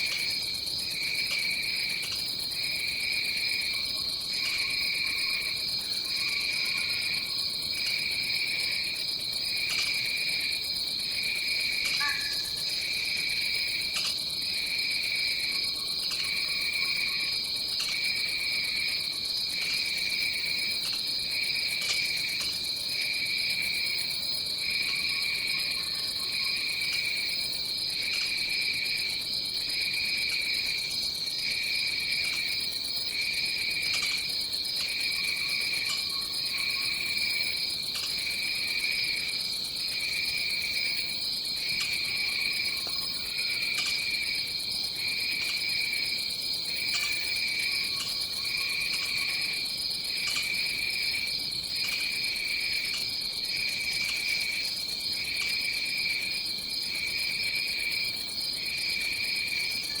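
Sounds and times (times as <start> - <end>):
high insect drone: 0.0 - 60.0
pulsing lower insect song: 0.0 - 60.0.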